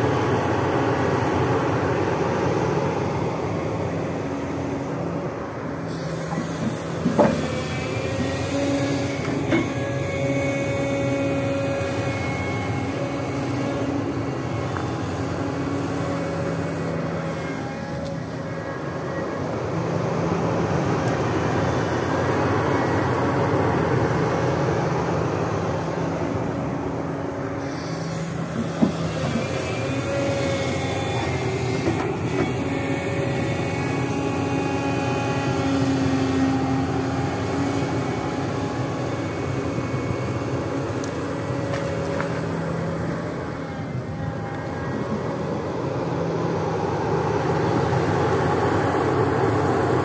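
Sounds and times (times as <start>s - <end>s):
excavator engine under load: 0.0s - 50.0s
hydraulic whining: 0.0s - 50.0s.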